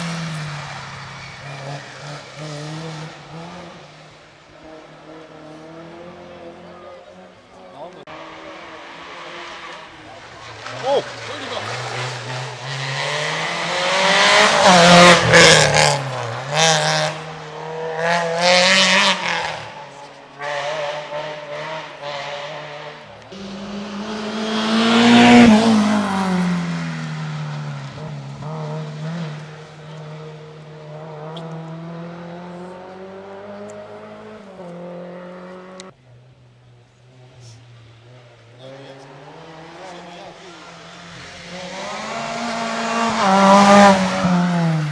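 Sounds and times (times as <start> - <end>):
rally cars passing at speed: 0.0 - 44.9.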